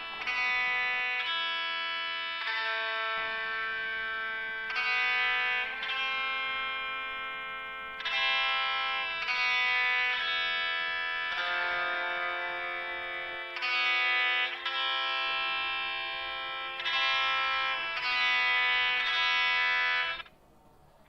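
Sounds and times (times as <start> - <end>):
electric guitar chords: 0.0 - 20.3.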